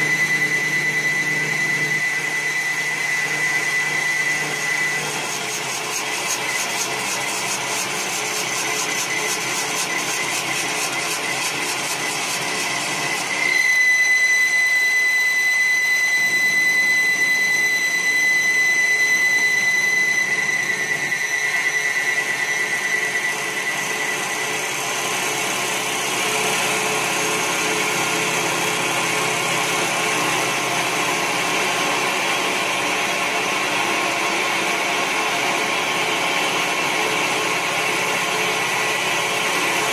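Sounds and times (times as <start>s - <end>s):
high steady whine: 0.0s - 39.9s
wood lathe whirring: 0.0s - 39.9s.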